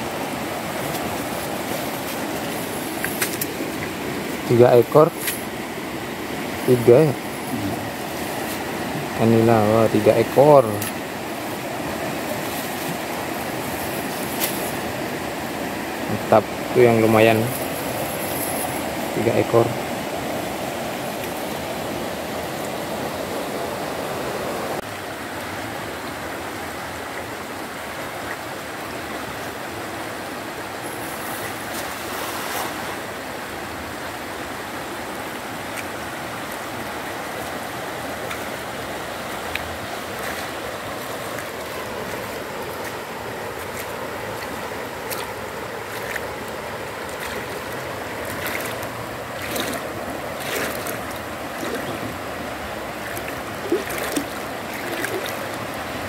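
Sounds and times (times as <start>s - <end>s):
splashes of wading through water: 0.0s - 23.5s, 30.8s - 56.0s
water flowing in a shallow river: 0.0s - 56.0s.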